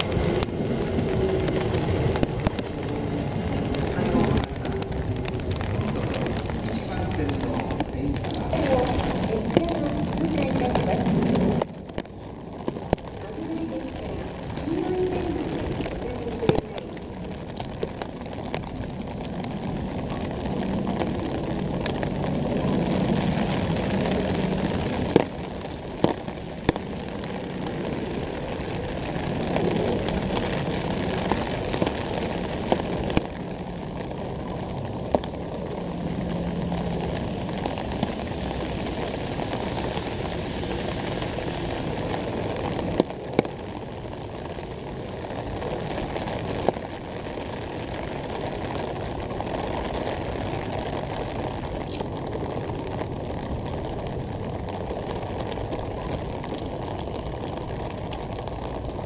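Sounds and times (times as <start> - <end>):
distant rumble: 0.0 - 59.0.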